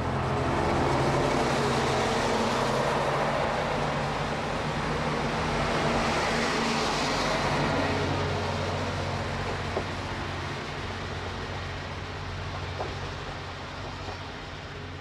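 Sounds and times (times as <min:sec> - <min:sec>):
train rumbling over rails: 0:00.0 - 0:15.0.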